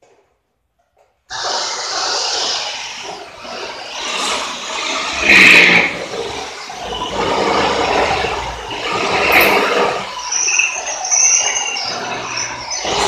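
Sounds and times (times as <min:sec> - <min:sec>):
electric drill boring into wall: 0:01.3 - 0:13.0.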